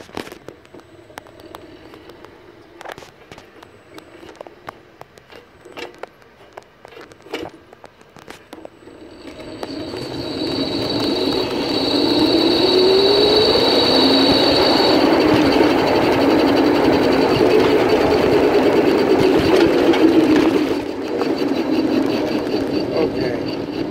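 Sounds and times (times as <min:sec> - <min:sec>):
electric go-kart motor whine: 0:00.0 - 0:06.1, 0:08.2 - 0:23.9
go-kart running rush: 0:00.0 - 0:23.9.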